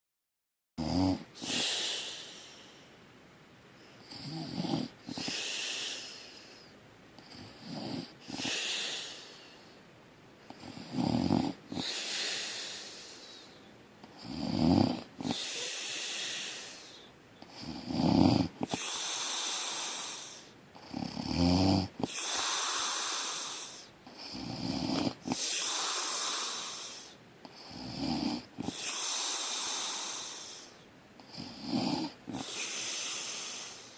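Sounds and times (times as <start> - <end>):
loud snoring: 0.8 - 2.4, 4.1 - 6.2, 7.3 - 9.3, 10.5 - 13.4, 14.2 - 30.7, 31.3 - 33.9.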